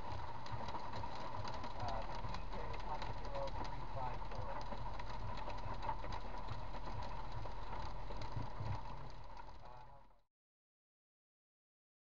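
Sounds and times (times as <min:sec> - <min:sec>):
rain striking windshield and roof: 0:00.0 - 0:10.1.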